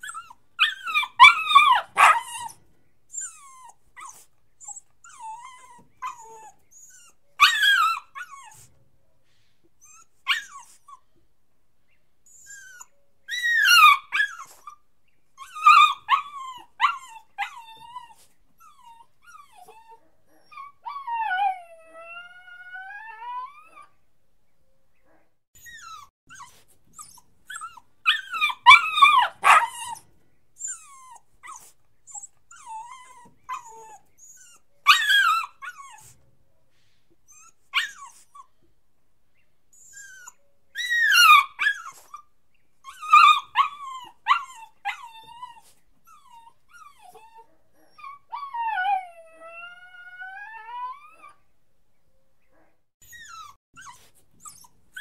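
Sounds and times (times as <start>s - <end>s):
puppy whining and yelping: 0.0s - 8.8s, 9.8s - 11.2s, 12.3s - 14.8s, 15.4s - 24.0s, 25.6s - 36.3s, 37.3s - 38.7s, 39.7s - 51.5s, 53.0s - 55.0s.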